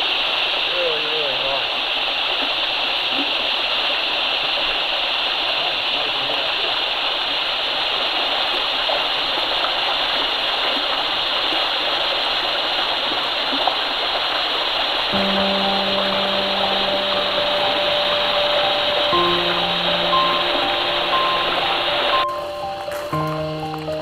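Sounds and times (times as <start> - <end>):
water running over rocks: 0.0 - 24.0.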